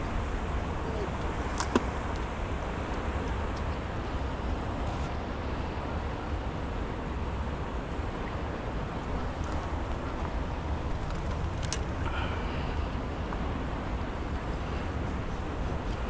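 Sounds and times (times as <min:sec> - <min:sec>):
flowing water: 0:00.0 - 0:16.0.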